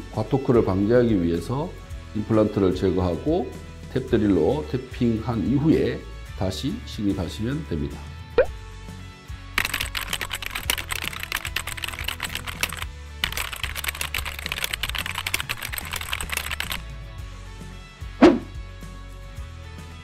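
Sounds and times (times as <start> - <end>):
quiet background music: 0.0 - 19.0.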